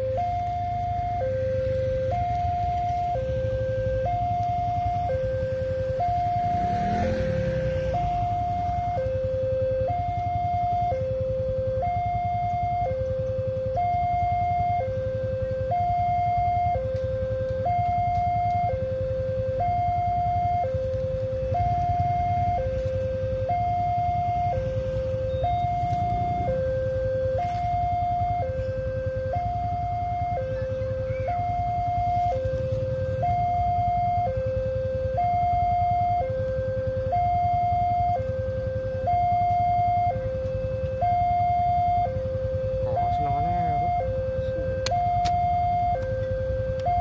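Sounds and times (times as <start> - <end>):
two-tone crossing alarm siren: 0.0 - 47.0.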